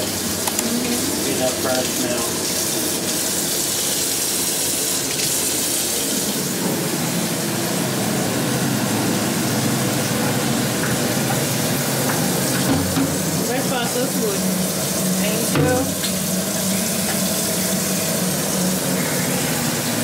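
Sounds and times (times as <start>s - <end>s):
pots boiling and bubbling: 0.0s - 20.0s.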